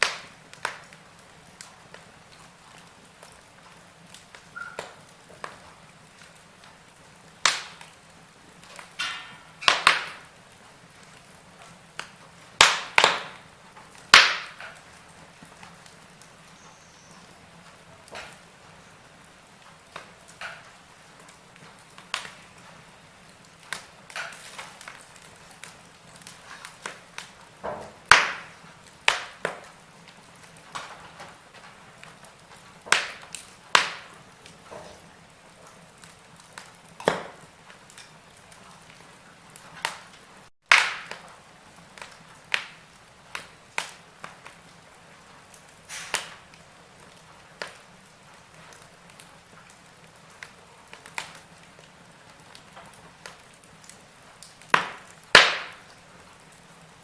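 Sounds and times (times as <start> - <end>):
low steady hiss: 0.0 - 57.0
wood fire crackling: 0.0 - 57.0.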